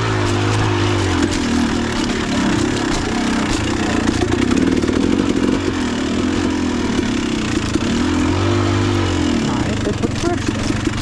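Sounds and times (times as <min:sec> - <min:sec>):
knocks and clatter over rocks: 0:00.0 - 0:08.2, 0:09.7 - 0:11.0
dirt bike engine revving: 0:00.0 - 0:11.0.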